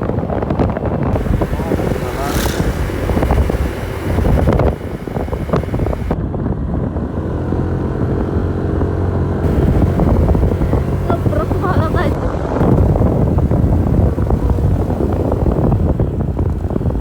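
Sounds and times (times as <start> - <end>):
vehicle engine running: 0.0 - 6.2, 7.4 - 17.0
wind noise on microphone: 0.0 - 17.0.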